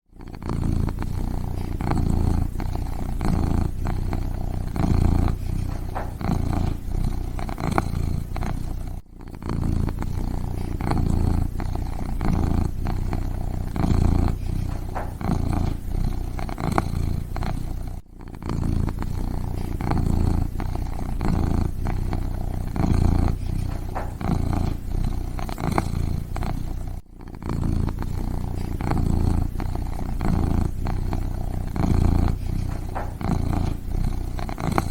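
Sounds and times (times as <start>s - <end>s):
kitten purring: 0.0s - 34.9s.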